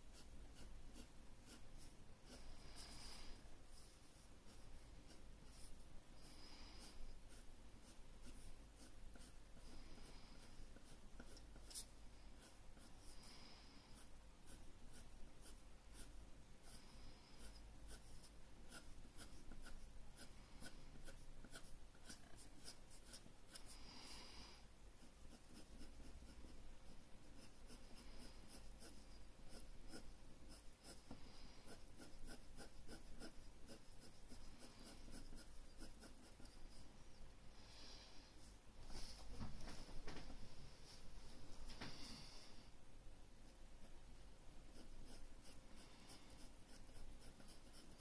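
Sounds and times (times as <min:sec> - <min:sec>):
pencil scratching on paper: 0:00.0 - 0:24.3, 0:25.0 - 0:36.9, 0:44.6 - 0:48.0.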